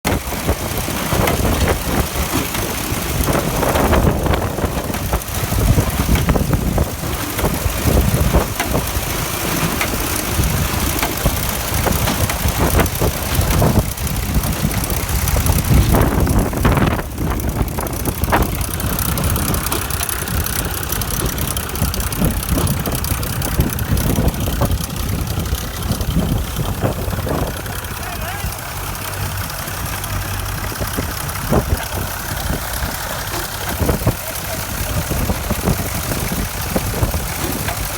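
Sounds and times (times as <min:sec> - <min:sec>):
tractor engine running: 0:00.0 - 0:37.9
baler mechanical clatter: 0:00.1 - 0:37.9.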